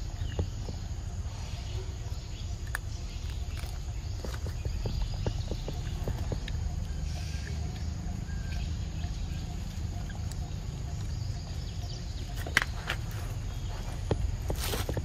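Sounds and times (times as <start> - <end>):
monkey chewing: 0.0 - 15.0.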